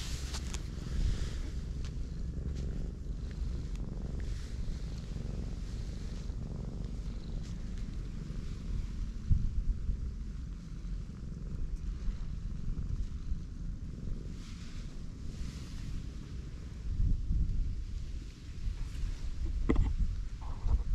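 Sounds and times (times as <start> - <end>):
cat purring: 0.0 - 20.9.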